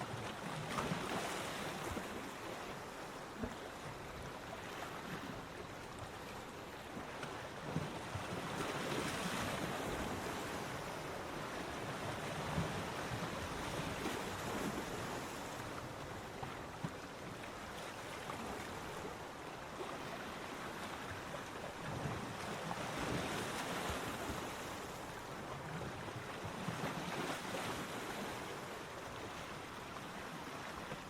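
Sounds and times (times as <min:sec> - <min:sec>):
ocean waves on a beach: 0:00.0 - 0:31.0.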